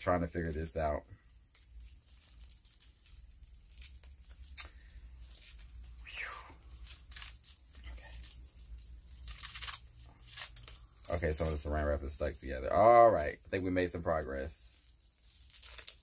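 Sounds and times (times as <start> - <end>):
cling wrap crinkling and tearing: 0.0 - 16.0.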